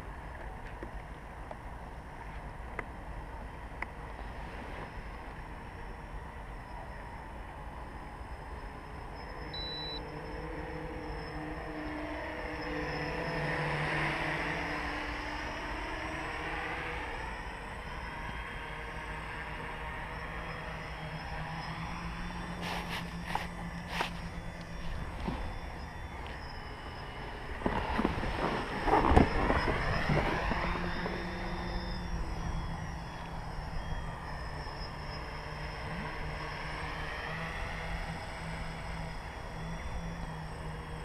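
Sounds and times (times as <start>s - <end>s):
drone motors buzzing: 1.0s - 41.0s.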